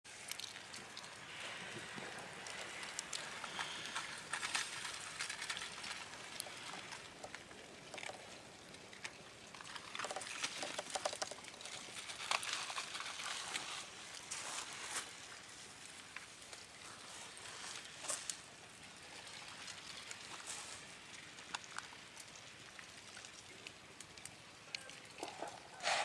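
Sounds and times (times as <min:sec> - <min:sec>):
lava blocks crackling and grinding: 0:00.1 - 0:22.6.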